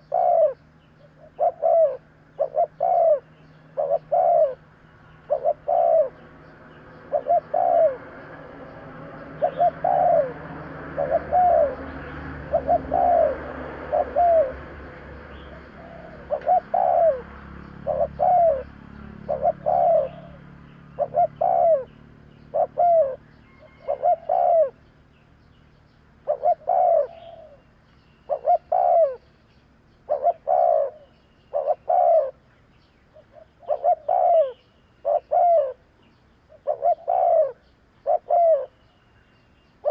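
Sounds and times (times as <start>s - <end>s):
dove cooing: 0.0s - 24.9s, 26.2s - 29.3s, 30.0s - 32.4s, 33.1s - 39.0s.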